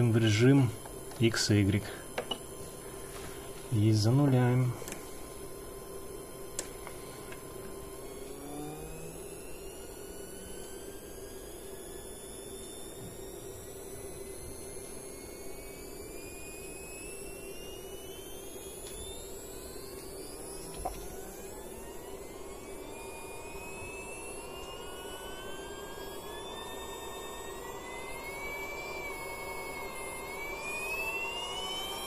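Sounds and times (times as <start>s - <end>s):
low hum: 0.0s - 32.0s
stepper motor whining: 0.0s - 32.0s.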